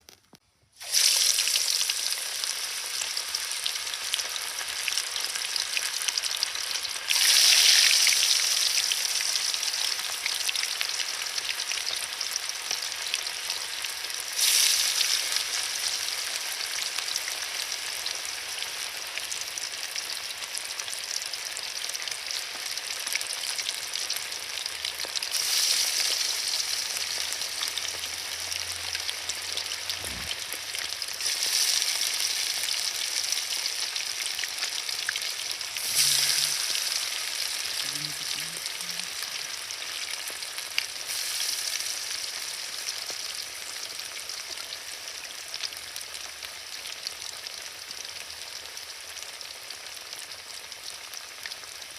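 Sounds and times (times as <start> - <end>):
fish sizzling in hot oil: 0.0 - 51.9.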